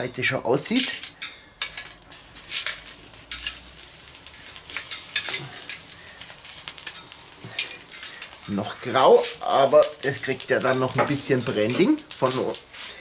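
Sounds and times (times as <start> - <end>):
fire crackling and popping: 0.0 - 13.0
steak sizzling on grill: 0.0 - 13.0.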